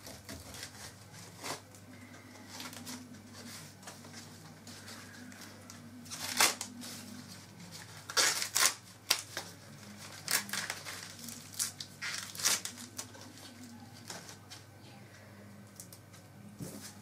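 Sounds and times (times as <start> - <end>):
corn husks ripping: 0.0 - 4.1, 4.8 - 14.5.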